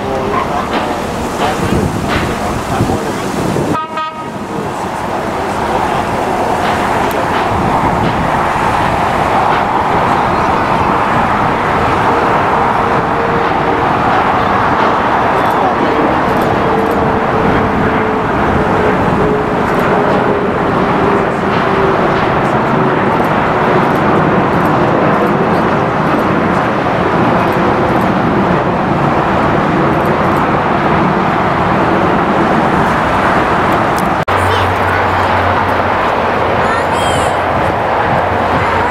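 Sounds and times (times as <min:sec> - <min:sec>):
jet airliner engines roaring: 0:00.0 - 0:38.9.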